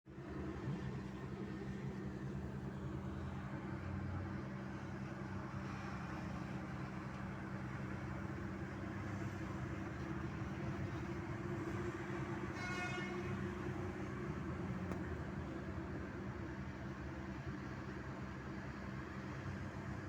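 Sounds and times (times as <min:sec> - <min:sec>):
large diesel engine droning: 0:00.1 - 0:20.0.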